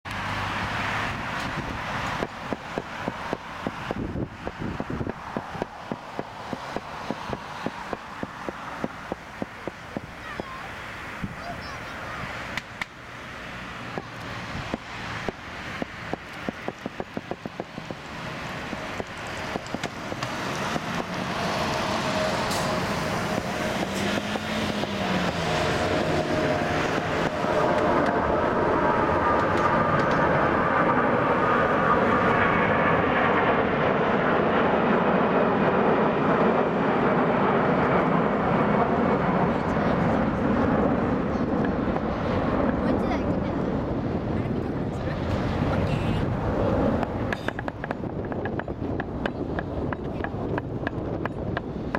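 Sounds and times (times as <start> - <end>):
jet engine roar: 0.1 - 51.9.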